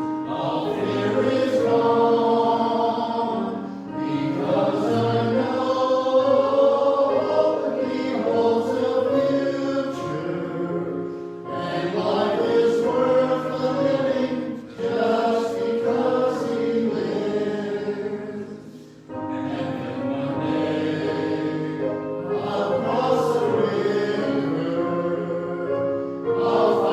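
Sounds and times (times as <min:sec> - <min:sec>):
group singing a hymn: 0:00.0 - 0:26.9.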